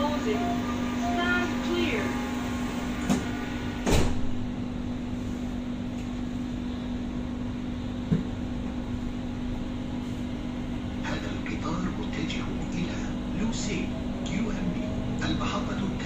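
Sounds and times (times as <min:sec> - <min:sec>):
train car hum: 0:00.0 - 0:16.0.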